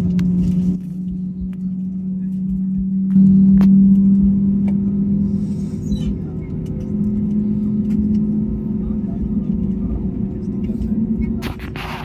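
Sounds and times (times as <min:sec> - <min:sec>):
airliner taxiing hum: 0:00.0 - 0:12.0.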